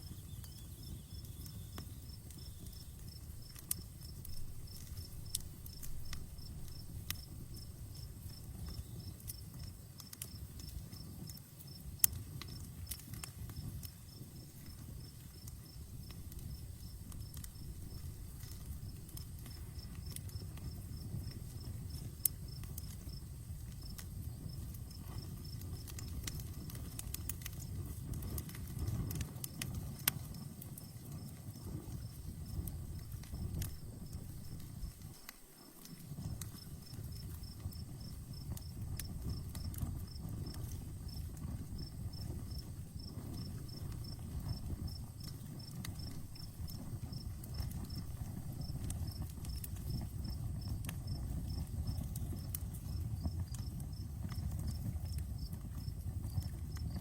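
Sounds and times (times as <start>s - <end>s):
crickets chirping: 0.0s - 27.4s, 30.3s - 57.0s
campfire crackling: 0.0s - 57.0s.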